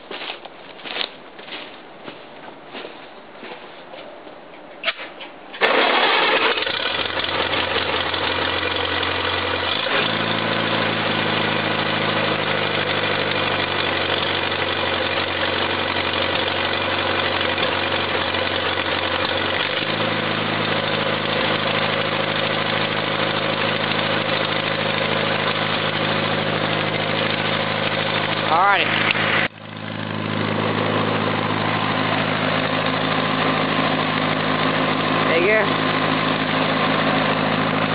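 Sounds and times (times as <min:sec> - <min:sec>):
tractor engine starting and running: 0:04.4 - 0:37.9.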